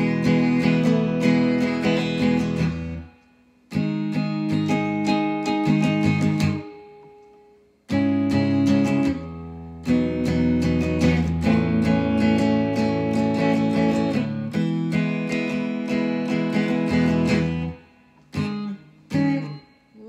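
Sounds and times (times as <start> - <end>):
electric guitar strumming: 0.0 - 20.0.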